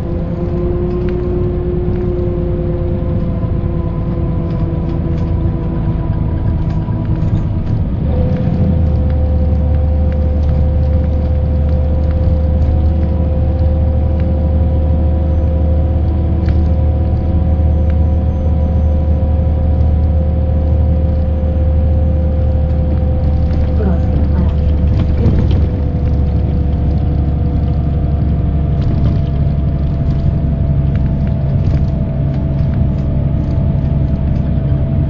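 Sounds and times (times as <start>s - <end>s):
bus diesel engine rumble: 0.0s - 35.0s
drivetrain whining tones: 0.0s - 35.0s.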